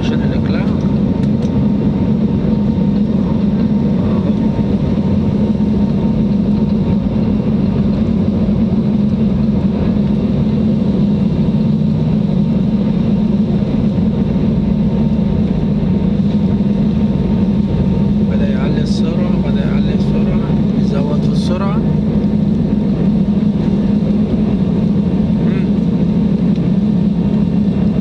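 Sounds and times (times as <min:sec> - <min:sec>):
airliner engines droning: 0:00.0 - 0:28.0.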